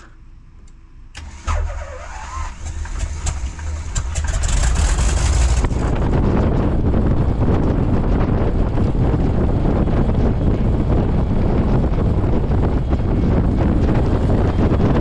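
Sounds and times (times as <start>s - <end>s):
propeller plane engine running: 1.2s - 15.0s
wind rushing over microphone: 1.4s - 15.0s.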